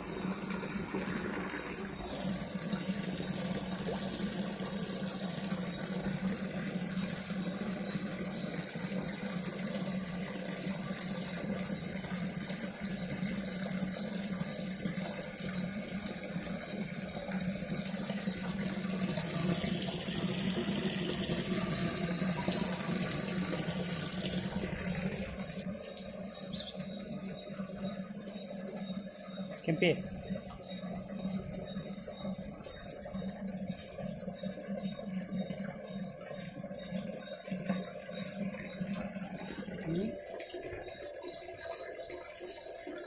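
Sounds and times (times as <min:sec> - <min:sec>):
waterfall splashing into pond: 0:00.0 - 0:27.1, 0:33.6 - 0:42.2.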